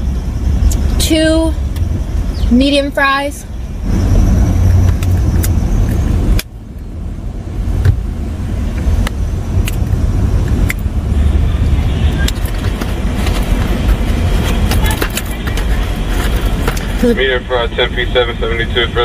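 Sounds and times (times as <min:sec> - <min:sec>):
car interior low rumble: 0:00.0 - 0:19.0.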